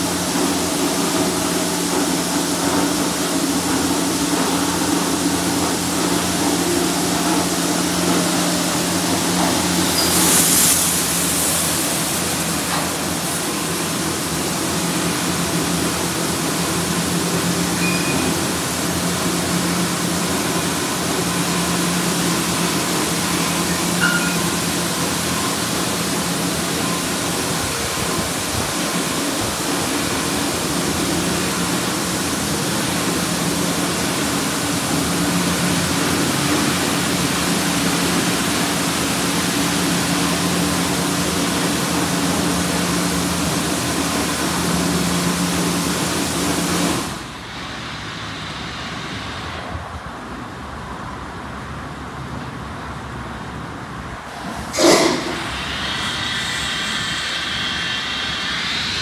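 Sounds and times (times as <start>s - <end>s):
high-pressure water spray: 0.0s - 49.5s, 54.4s - 59.0s.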